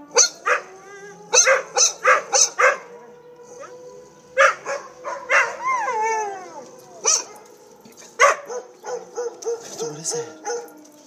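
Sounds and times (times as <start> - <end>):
dog howling: 0.0 - 11.0
dogs barking and yipping: 0.0 - 11.0
steady siren tone: 0.0 - 11.0.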